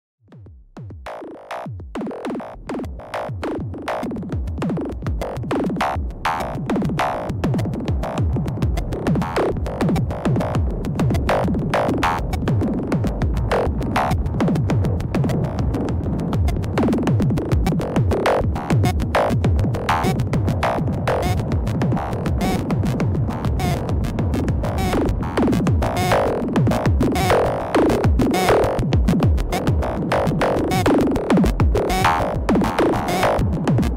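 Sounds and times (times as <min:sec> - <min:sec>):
sequenced synthesizer rhythm: 0:00.3 - 0:33.9.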